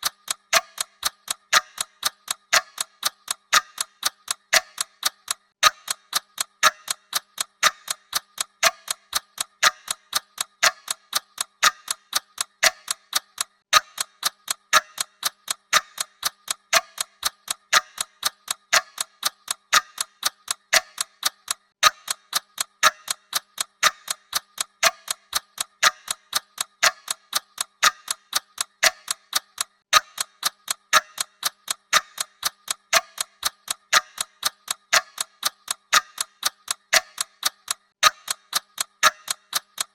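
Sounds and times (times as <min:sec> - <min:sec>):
mechanical clock ticking: 0:00.0 - 0:39.9.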